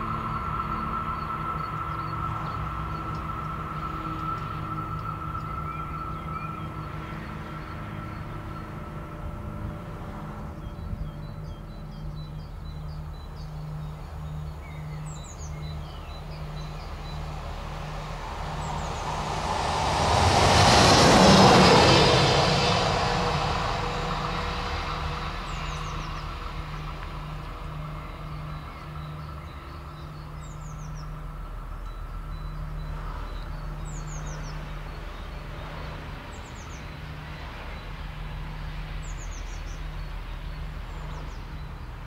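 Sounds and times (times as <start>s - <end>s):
locomotive wheels rushing past: 0.0s - 10.6s, 15.2s - 42.0s.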